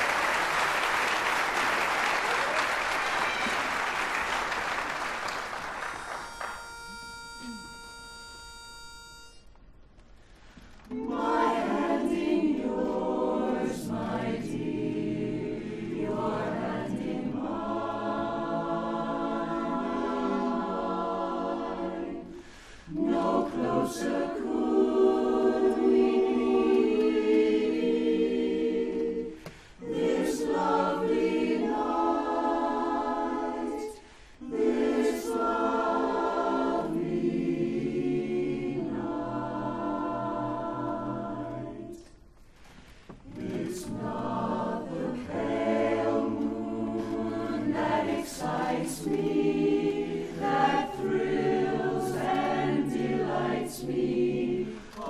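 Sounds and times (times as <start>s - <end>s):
a cappella chorus singing: 10.9s - 55.0s.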